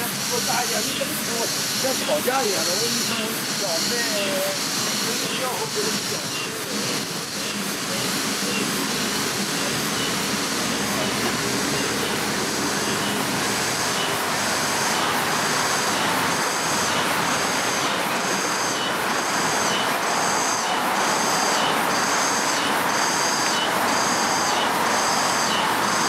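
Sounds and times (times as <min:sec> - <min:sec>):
insect chirping: 0:00.0 - 0:26.0
wind rushing through trees: 0:00.0 - 0:26.0.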